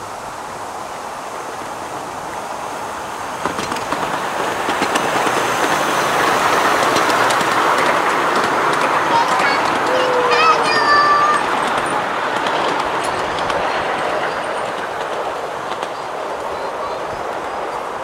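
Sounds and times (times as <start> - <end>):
miniature steam train rumbling: 0.0 - 18.0
wheels clicking over rail joints: 3.2 - 18.0.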